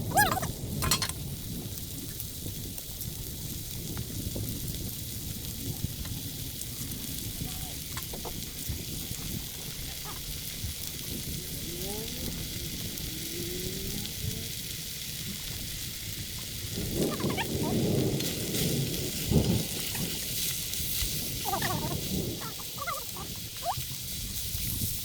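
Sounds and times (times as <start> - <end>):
food sizzling in a pot: 0.0 - 25.0.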